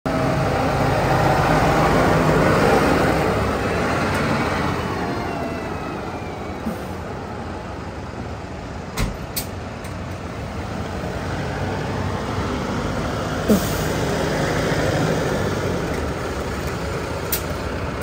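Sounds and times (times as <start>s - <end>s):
tractor diesel engine driving off: 0.1s - 8.9s, 9.6s - 18.0s.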